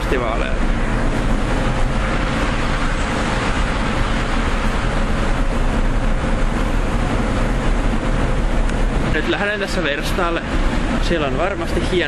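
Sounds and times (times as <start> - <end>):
rumbling din of parking garage: 0.0 - 12.0.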